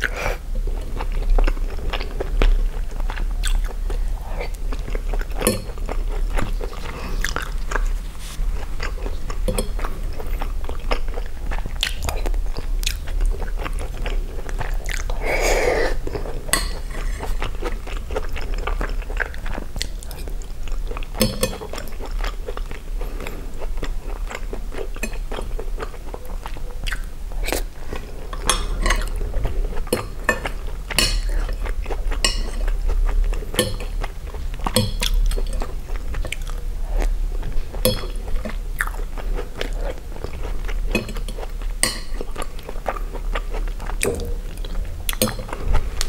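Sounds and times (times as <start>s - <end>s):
wet chewing mouth sounds: 0.0s - 46.0s.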